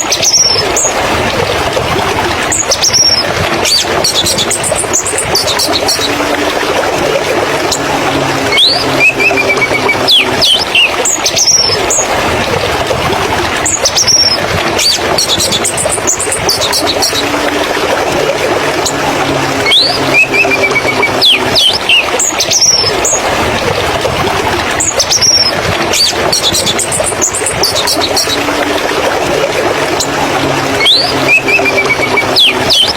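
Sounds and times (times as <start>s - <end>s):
steady rushing background: 0.0s - 32.9s.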